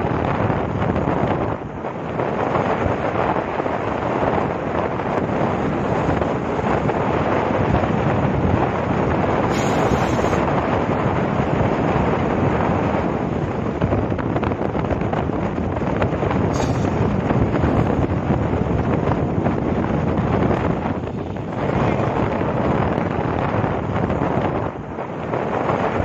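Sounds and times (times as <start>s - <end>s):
train running noise: 0.0s - 26.0s
wind buffeting microphone: 0.0s - 26.0s.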